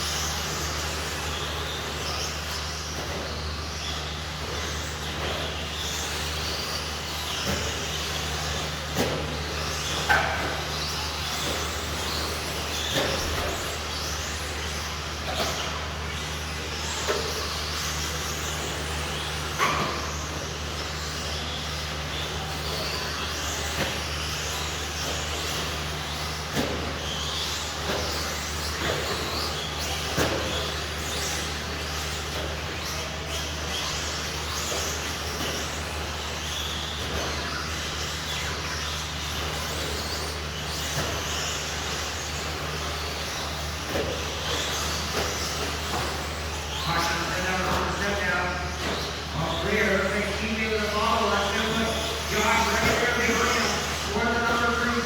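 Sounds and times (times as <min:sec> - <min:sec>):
rc truck motors whining: 0:00.0 - 0:55.0
steady low hum: 0:00.0 - 0:55.0.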